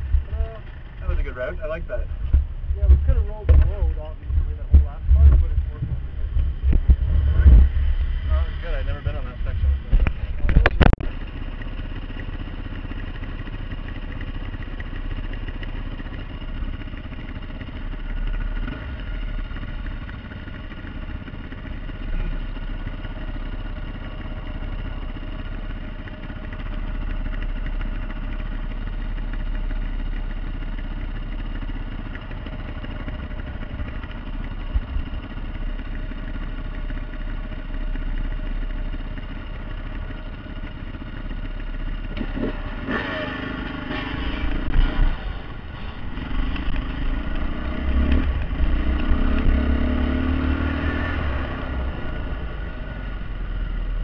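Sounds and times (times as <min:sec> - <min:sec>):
dirt bike engine idling: 0:00.0 - 0:54.0.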